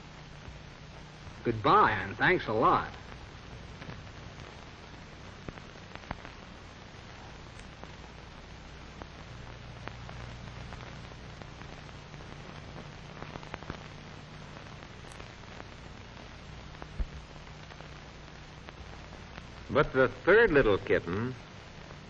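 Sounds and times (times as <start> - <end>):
faint crackles: 0.0 - 22.0
film soundtrack hiss: 0.0 - 22.0.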